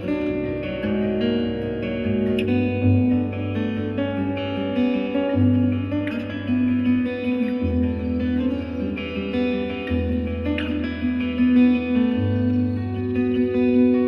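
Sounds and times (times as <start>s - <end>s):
fingerstyle acoustic guitar: 0.0s - 14.0s.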